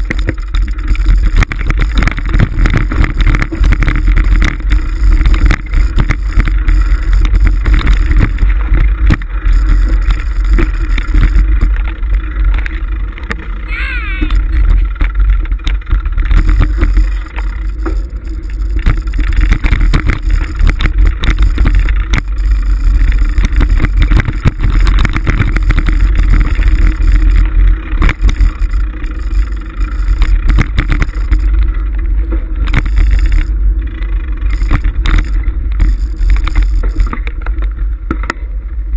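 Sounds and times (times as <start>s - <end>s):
bike rattling and knocking: 0.0s - 38.9s
wind and tyre rumble: 0.0s - 38.9s.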